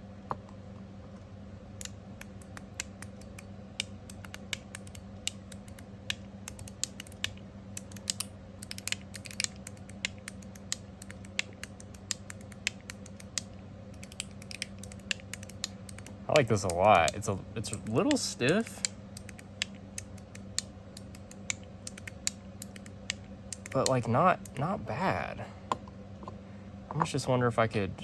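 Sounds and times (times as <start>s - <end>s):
sharp metallic clicks: 1.8s - 24.6s.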